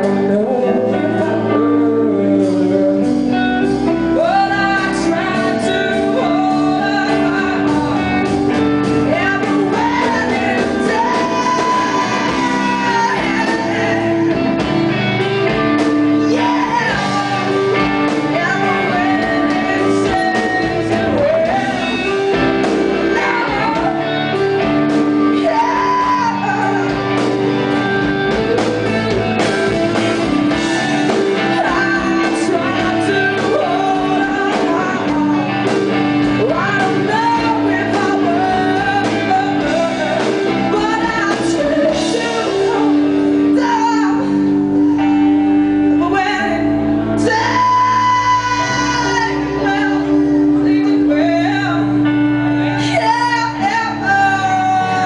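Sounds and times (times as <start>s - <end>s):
drum kit: 0.0s - 55.0s
electric guitars: 0.0s - 55.0s
woman singing: 0.0s - 55.0s.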